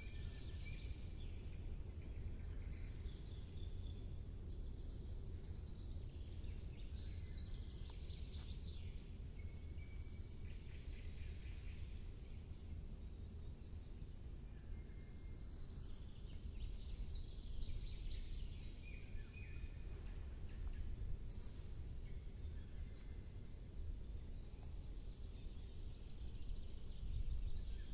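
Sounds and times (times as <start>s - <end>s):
birds twittering: 0.0s - 27.9s
steady low rumble: 0.0s - 27.9s.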